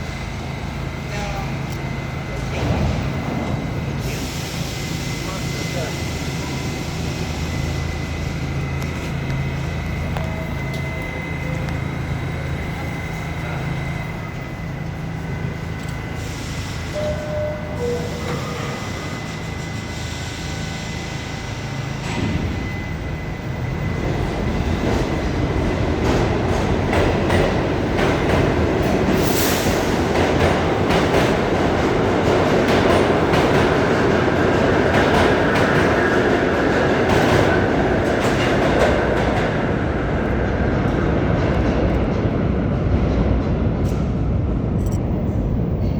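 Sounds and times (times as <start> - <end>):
subway train hum: 0.0 - 45.9.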